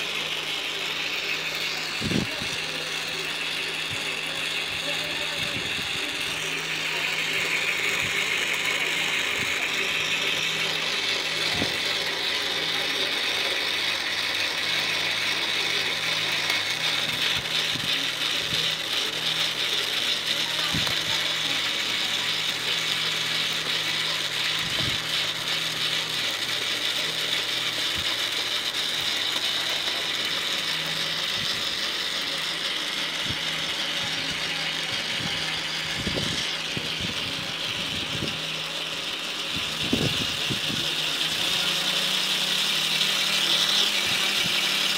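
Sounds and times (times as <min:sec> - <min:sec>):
model engine ratcheting clatter: 0:00.0 - 0:44.9.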